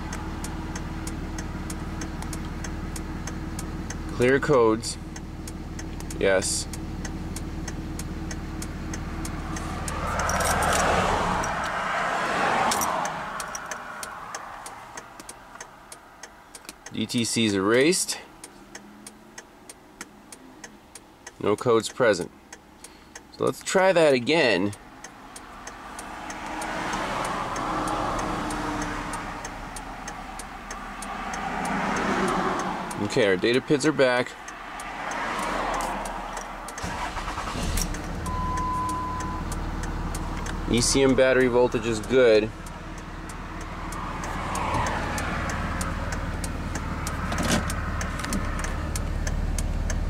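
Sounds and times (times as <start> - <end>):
diesel engine idling: 0.0 - 17.5, 22.2 - 50.0.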